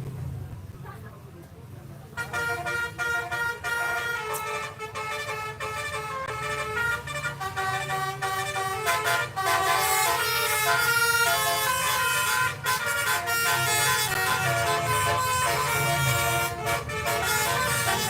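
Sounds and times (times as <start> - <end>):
bus air horn playing a tune: 2.2 - 18.0.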